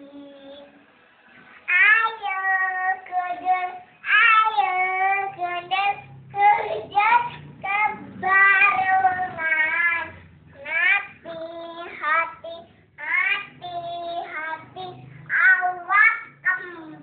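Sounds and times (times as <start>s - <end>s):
child singing: 0.0s - 0.8s, 1.7s - 17.0s.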